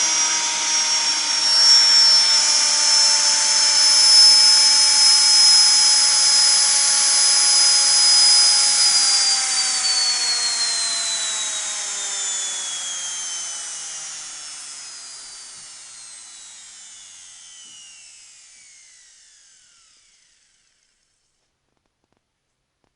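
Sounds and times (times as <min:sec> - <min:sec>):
washing machine motor whining: 0:00.0 - 0:20.8.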